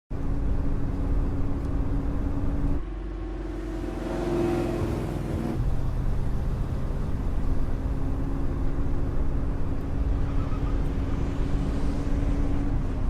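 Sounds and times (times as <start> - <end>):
car engines running: 0.1 - 13.0.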